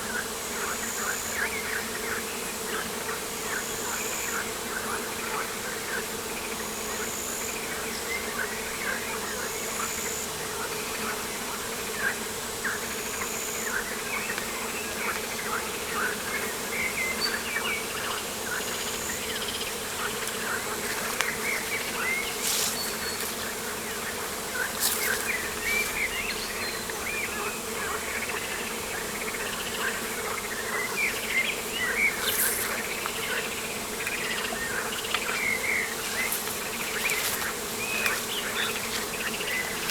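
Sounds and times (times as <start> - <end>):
flying insects buzzing: 0.0 - 39.9.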